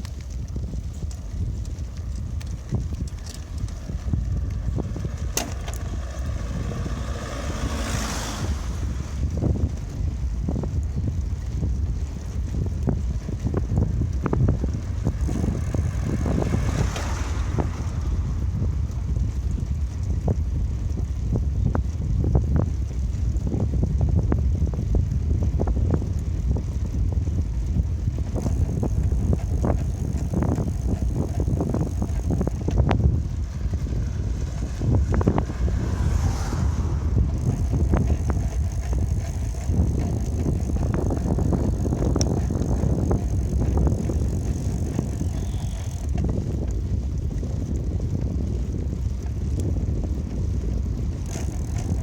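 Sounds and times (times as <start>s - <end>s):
bicycle clicks and knocks: 0.0s - 52.0s
tyres and wind rumble: 0.0s - 52.0s.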